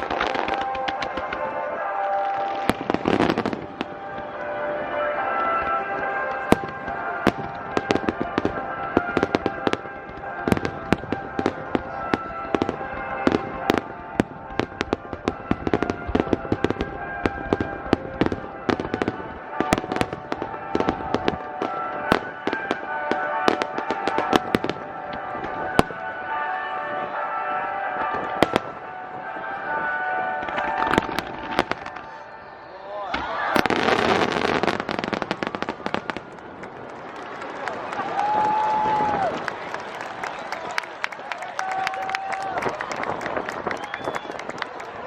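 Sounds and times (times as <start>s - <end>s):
fireworks bursting and crackling: 0.0s - 45.0s
music playing: 0.0s - 45.0s.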